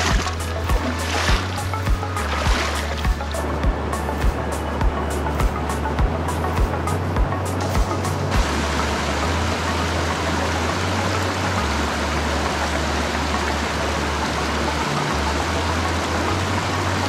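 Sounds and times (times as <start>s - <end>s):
river rushing over boulders: 0.0s - 6.8s, 7.8s - 17.0s.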